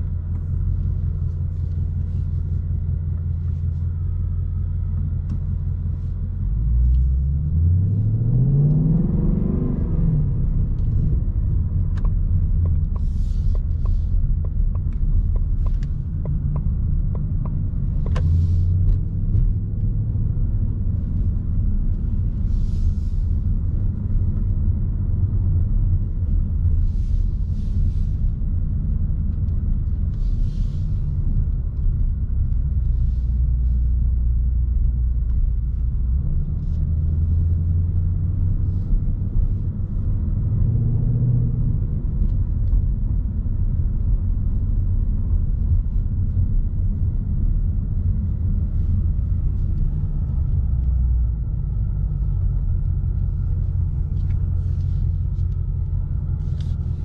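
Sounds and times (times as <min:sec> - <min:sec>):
car engine low drone: 0:00.0 - 0:57.0
road noise: 0:00.0 - 0:57.0.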